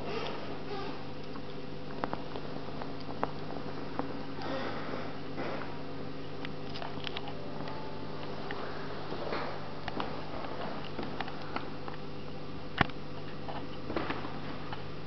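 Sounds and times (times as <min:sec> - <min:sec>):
aquarium equipment hum: 0:00.0 - 0:15.0.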